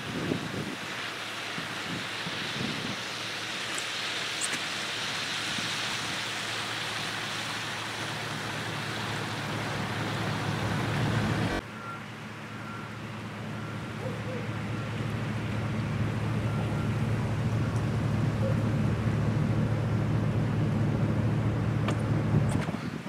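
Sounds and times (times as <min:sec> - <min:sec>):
rushing floodwater: 0:00.0 - 0:23.0.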